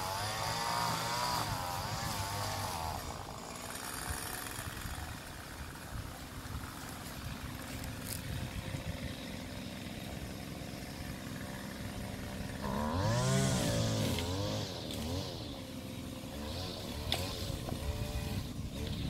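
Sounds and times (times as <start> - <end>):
engine running and revving: 0.0 - 19.0.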